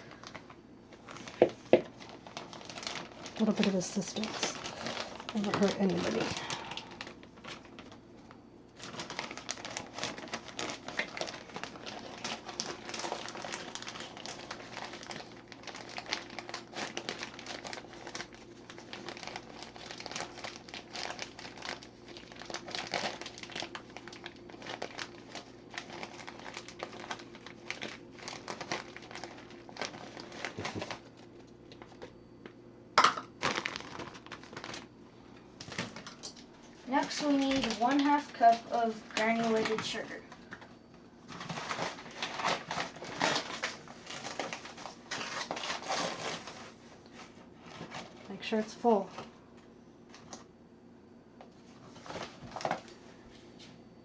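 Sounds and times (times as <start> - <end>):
packaging crinkling and scraping: 0.0 - 32.2, 33.1 - 50.5, 51.4 - 53.4.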